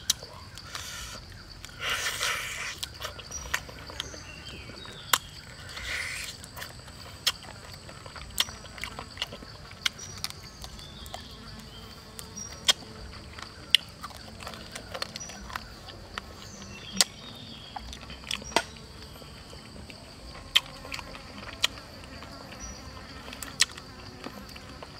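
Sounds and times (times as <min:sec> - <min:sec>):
chewing crunches: 0:00.0 - 0:24.9
insects droning: 0:00.0 - 0:24.9.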